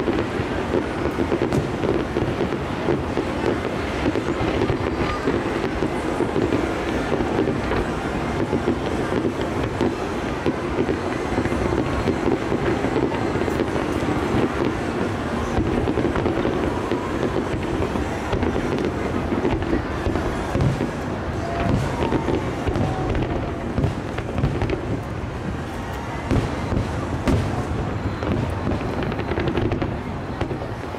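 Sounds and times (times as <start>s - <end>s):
distant fireworks barrage: 0.0s - 30.9s.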